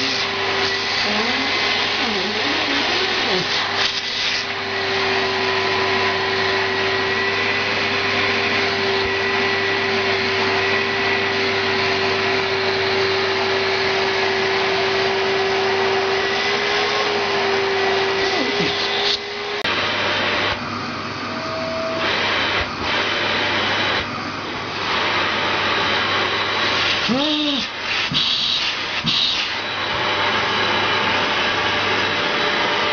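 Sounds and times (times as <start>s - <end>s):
vacuum cleaner motor whining: 0.0s - 32.9s.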